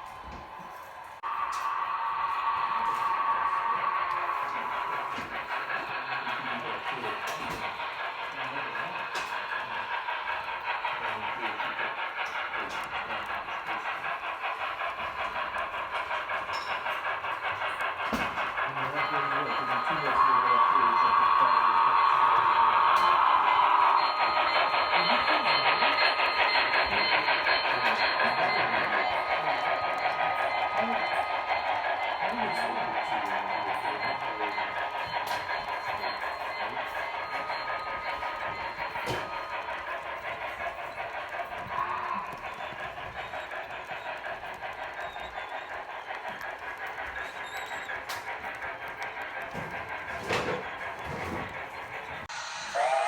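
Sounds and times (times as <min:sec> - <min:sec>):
model train running on track: 0:00.0 - 0:53.0.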